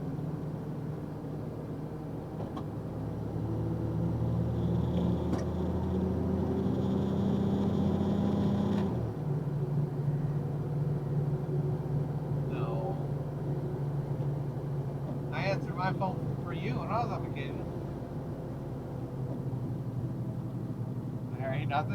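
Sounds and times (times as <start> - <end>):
truck engine hum from cab: 0.0 - 21.9.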